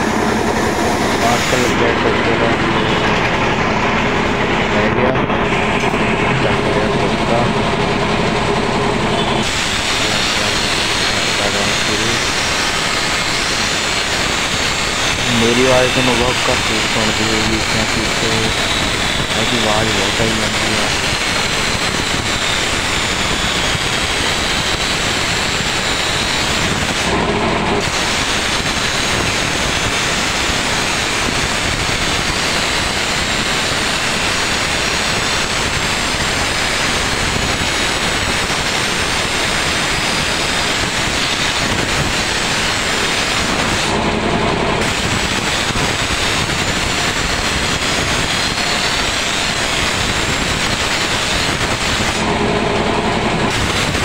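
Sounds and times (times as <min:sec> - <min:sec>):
blade grinding on grinding wheel: 0:05.4 - 0:52.8.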